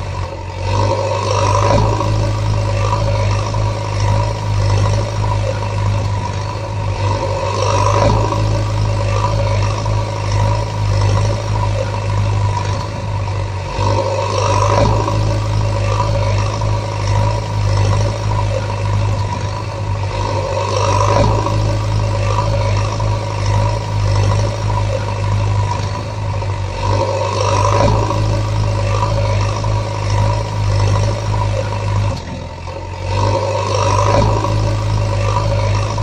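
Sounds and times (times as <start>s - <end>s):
truck engine humming: 0.0s - 36.0s.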